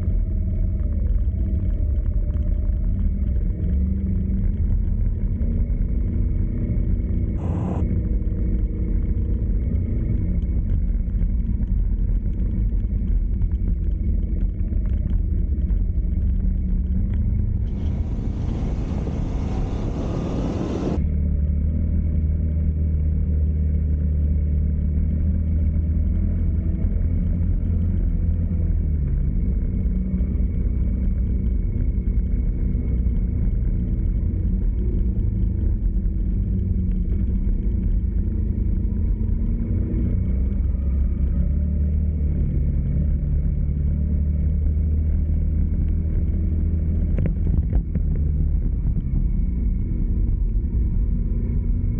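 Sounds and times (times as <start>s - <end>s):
car engine and road rumble: 0.0s - 51.9s.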